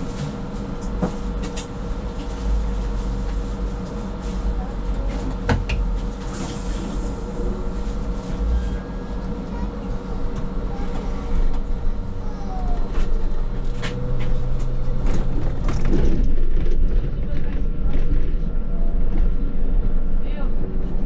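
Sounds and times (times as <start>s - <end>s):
trolleybus low rumble: 0.0s - 21.0s.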